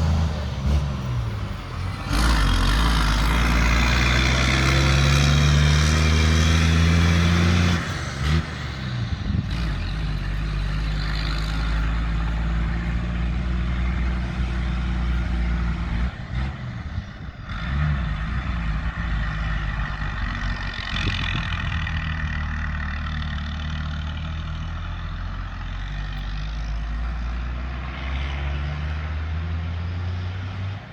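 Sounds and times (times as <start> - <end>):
diesel truck engine running loud: 0.0 - 30.9.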